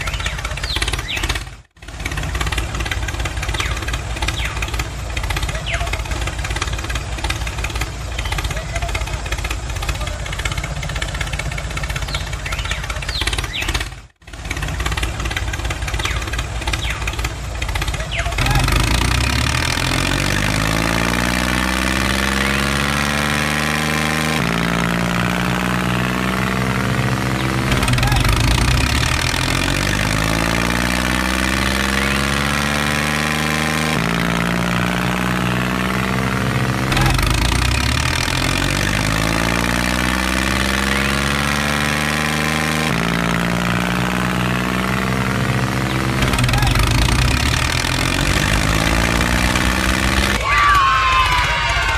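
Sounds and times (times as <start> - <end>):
diesel tractor engine running: 0.0 - 51.9.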